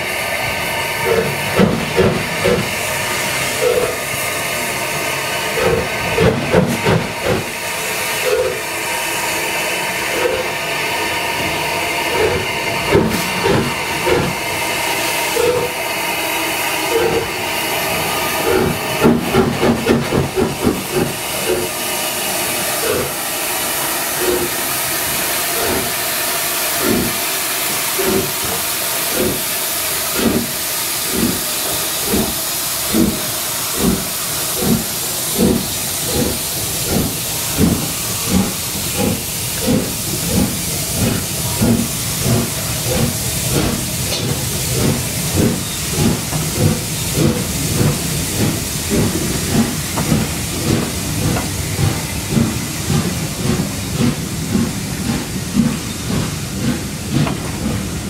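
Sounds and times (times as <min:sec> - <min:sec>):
steam hissing: 0:00.0 - 0:58.0
steam locomotive chuffs: 0:00.0 - 0:58.0.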